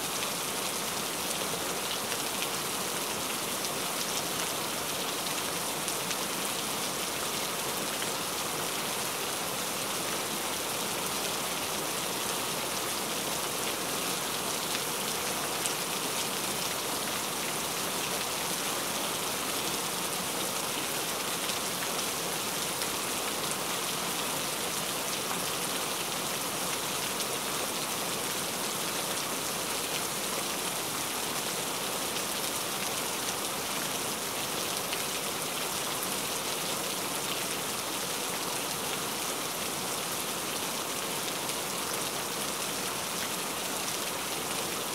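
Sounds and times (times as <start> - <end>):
steady rain hissing: 0.0 - 44.9.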